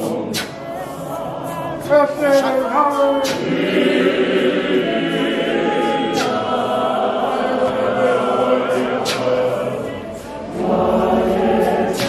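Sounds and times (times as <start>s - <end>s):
choir singing a hymn: 0.0s - 12.0s.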